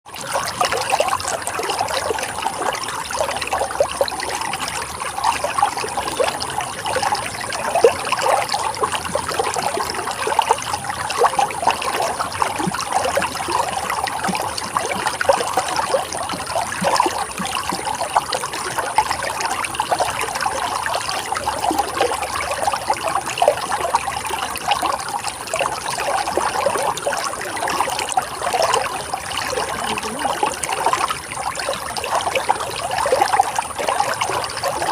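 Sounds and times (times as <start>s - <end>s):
water babbling and splashing: 0.0s - 34.9s.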